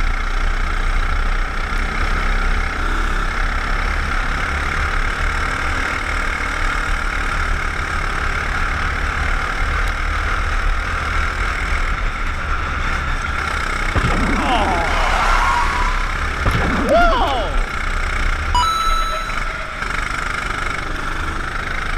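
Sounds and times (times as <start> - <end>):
racing kart engine running: 0.0 - 21.9.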